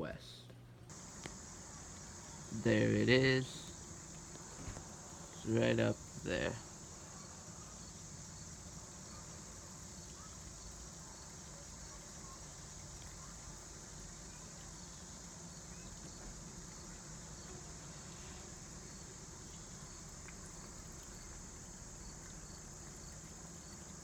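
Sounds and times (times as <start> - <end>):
insects chirping: 0.9 - 24.0.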